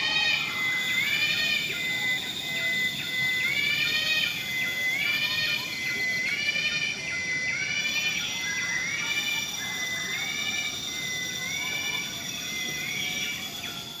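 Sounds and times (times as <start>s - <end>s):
high-pitched insect buzz: 0.0s - 14.0s
insect siren-like call: 0.0s - 14.0s.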